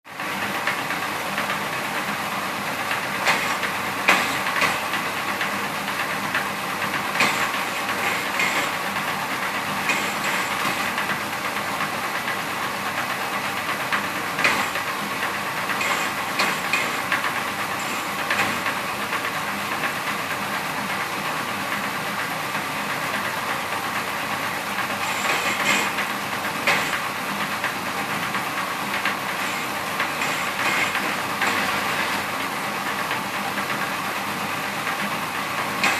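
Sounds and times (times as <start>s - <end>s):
skewer shaving machine running: 0.1s - 35.9s.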